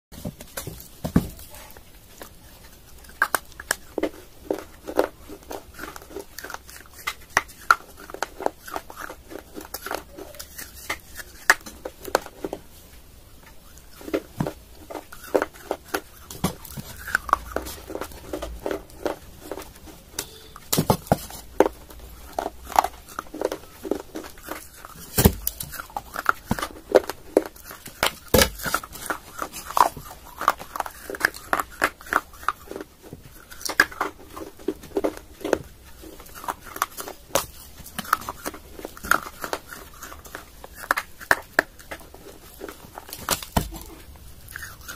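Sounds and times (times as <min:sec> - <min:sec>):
crunching and chewing baked clay: 0:00.2 - 0:44.9.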